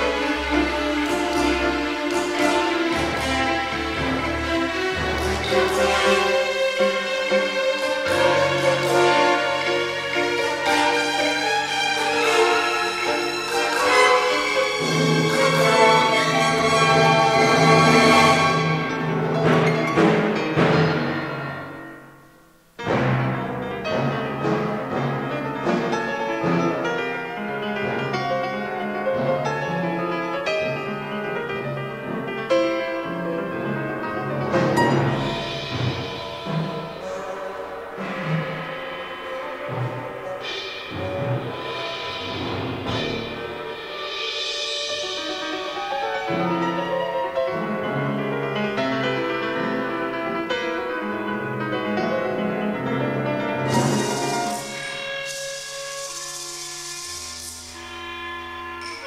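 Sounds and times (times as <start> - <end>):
orchestral strings: 0.0 - 22.0, 22.8 - 59.0
piano playing: 0.0 - 59.0.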